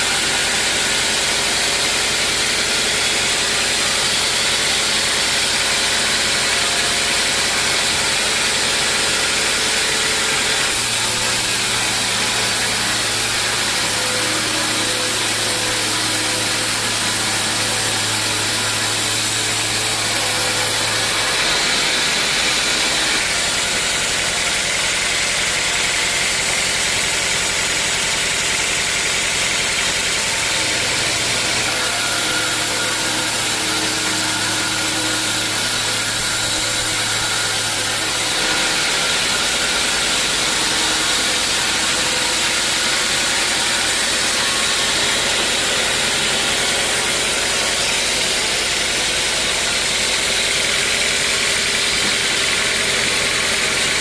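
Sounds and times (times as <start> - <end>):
sawmill machinery drone: 0.0 - 54.0.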